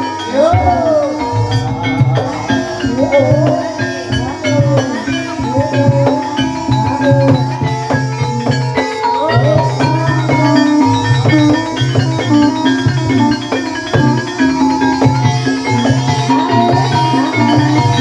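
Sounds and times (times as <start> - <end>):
struck tuned percussion ringing: 0.0 - 18.0
wavering melodic line: 0.0 - 18.0
low drum rhythm: 0.4 - 18.0.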